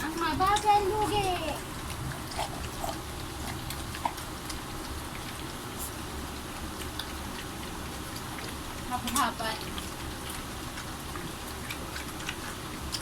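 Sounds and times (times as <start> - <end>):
puppies eating crunching: 0.0 - 13.0.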